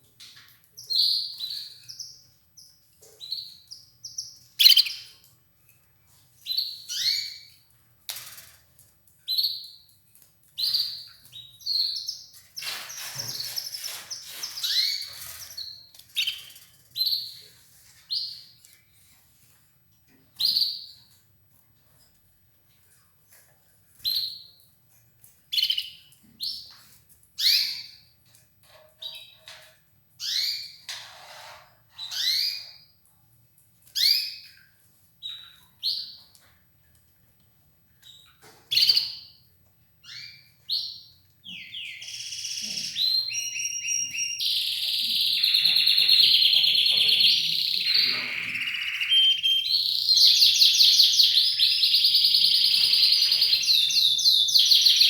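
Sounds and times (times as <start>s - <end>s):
canary chirping and trilling: 0.3s - 19.6s, 20.3s - 22.2s, 23.4s - 36.6s, 38.0s - 55.0s.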